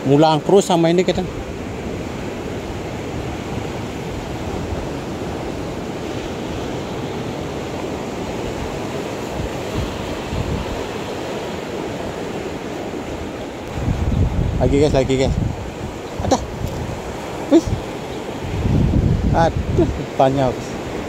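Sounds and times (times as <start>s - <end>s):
sea waves washing over rocks: 0.0s - 21.0s
wind buffeting microphone: 0.0s - 21.0s.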